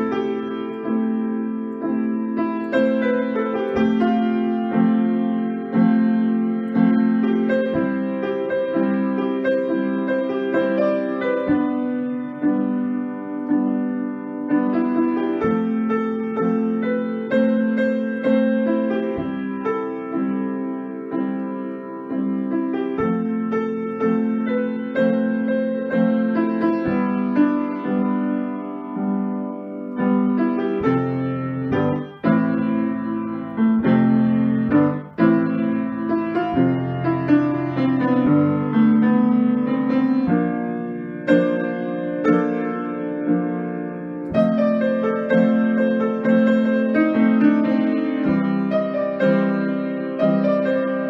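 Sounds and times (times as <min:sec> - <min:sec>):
piano ballad: 0:00.0 - 0:51.0.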